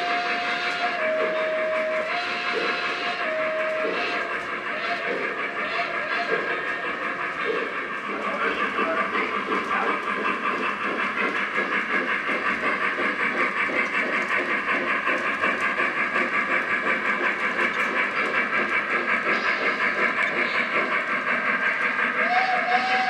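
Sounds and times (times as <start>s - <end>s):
model steam locomotive chuffing: 0.0s - 23.0s.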